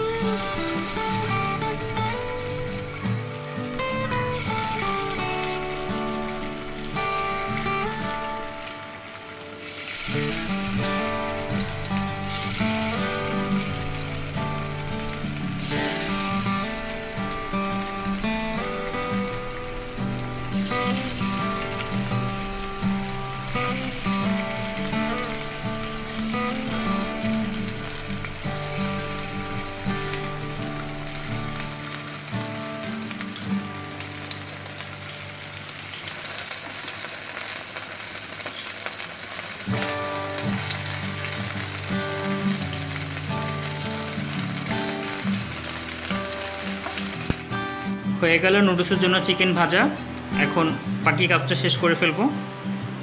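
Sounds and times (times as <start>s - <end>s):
background music: 0.0s - 36.5s, 39.7s - 53.0s
chicken sizzling in a frying pan: 0.0s - 48.0s.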